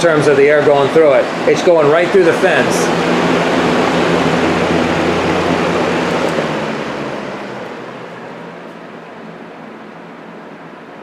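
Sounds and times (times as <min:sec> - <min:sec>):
box fan air rushing: 0:00.0 - 0:11.0
low hum: 0:00.4 - 0:11.0.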